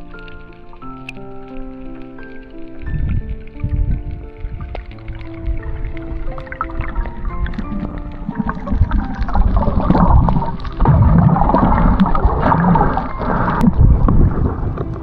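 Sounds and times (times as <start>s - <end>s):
faint background music: 0.0s - 15.0s
water gurgling and sloshing: 0.0s - 15.0s.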